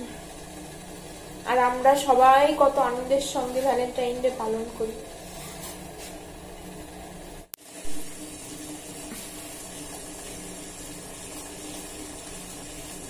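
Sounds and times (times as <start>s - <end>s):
water boiling in a pot: 0.0s - 13.0s.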